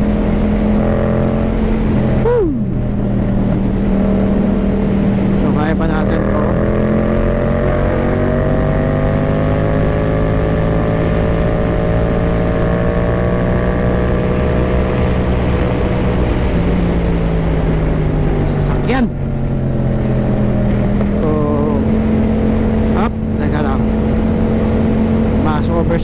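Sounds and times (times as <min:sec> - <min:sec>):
heavy wind rush: 0:00.0 - 0:26.0
motorcycle engine at highway speed: 0:00.0 - 0:26.0.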